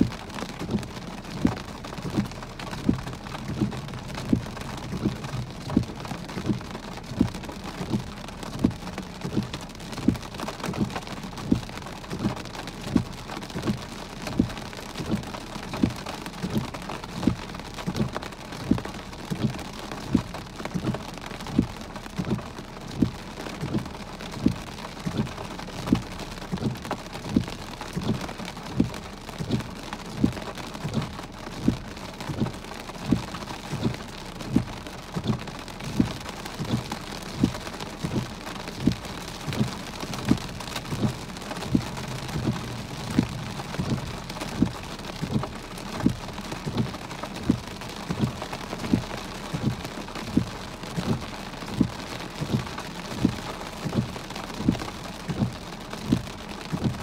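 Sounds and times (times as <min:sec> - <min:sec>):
big raindrops thudding: 0:00.0 - 0:57.0
rain hissing on a car: 0:00.0 - 0:57.0.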